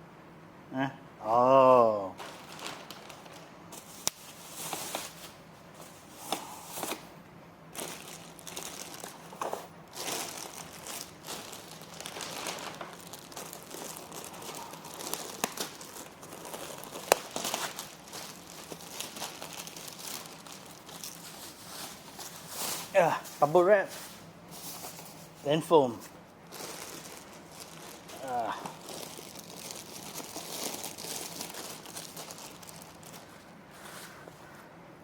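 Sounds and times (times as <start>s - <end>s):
plastic packaging crinkling: 2.2s - 7.1s, 7.7s - 34.3s.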